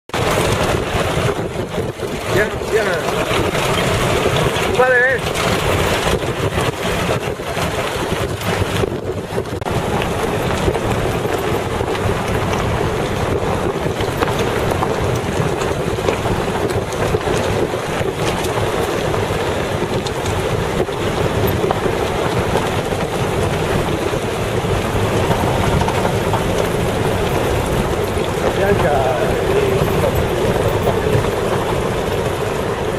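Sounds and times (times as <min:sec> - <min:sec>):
off-road vehicle engine: 0:00.0 - 0:32.9
wind rushing on microphone: 0:00.1 - 0:32.9.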